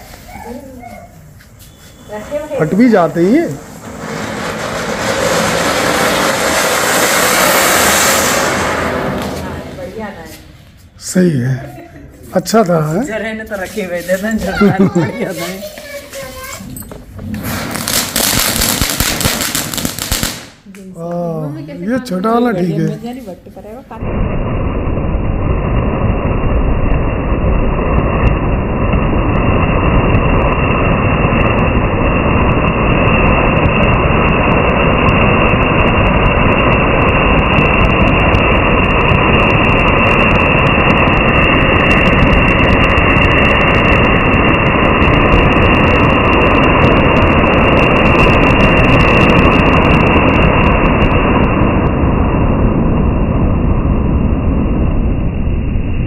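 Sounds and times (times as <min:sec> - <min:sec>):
firework crackling: 0:00.0 - 0:56.0
firework fountain hissing: 0:00.0 - 0:56.0.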